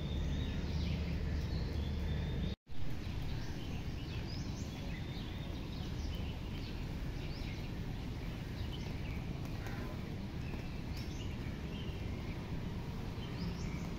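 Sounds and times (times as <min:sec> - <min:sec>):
outdoor ambient noise: 0:00.0 - 0:13.9
small birds chirping: 0:00.0 - 0:13.9.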